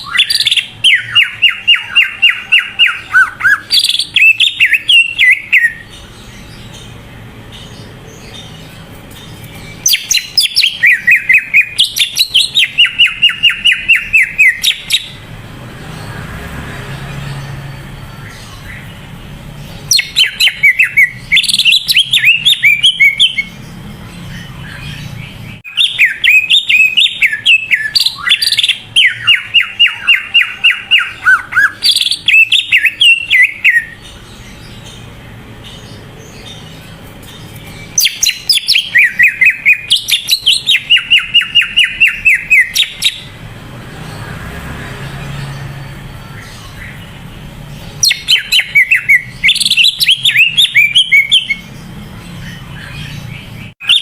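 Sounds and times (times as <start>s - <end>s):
songbird fast chirping song: 0.0s - 54.0s.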